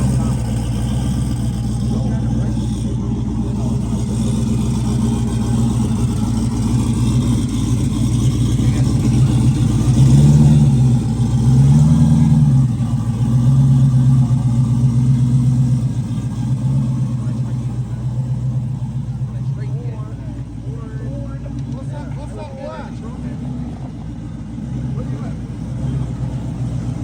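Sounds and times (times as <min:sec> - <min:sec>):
race car engine idling and revving: 0:00.0 - 0:27.0.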